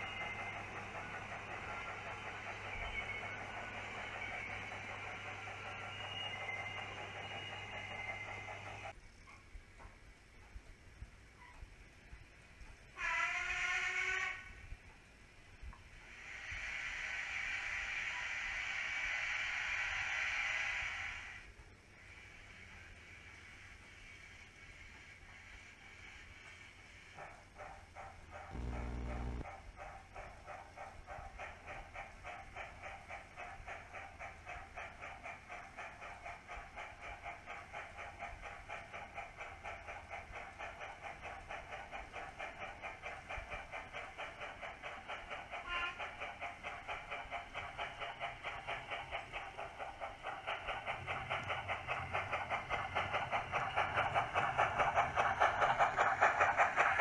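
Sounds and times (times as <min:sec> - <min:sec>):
model steam locomotive chuffs: 0:00.0 - 0:57.0.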